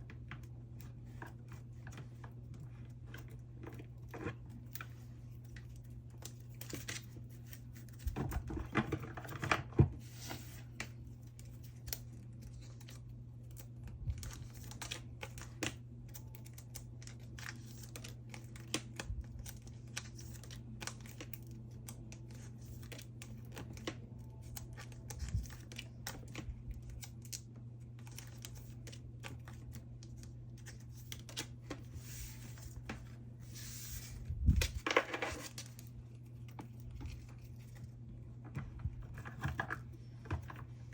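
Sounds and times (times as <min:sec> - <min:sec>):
faint steady hum: 0:00.0 - 0:40.9
plastic sleeves crinkling: 0:00.4 - 0:40.9.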